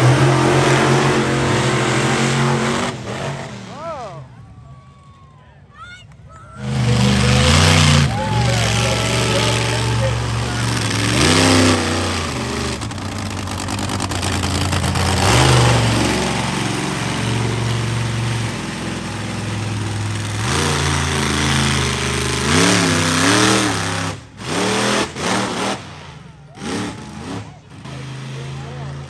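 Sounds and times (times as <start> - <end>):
truck engine revving: 0.0 - 4.5, 6.6 - 29.0.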